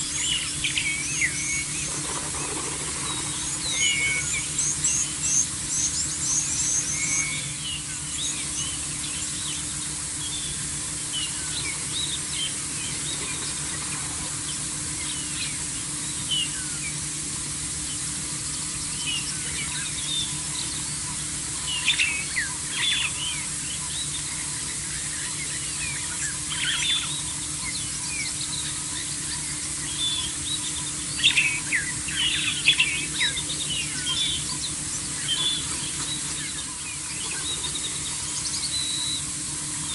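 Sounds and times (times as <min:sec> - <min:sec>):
birds chirping: 0:00.0 - 0:39.9
faint low hum: 0:00.0 - 0:39.9
steady outdoor hiss: 0:00.0 - 0:39.9.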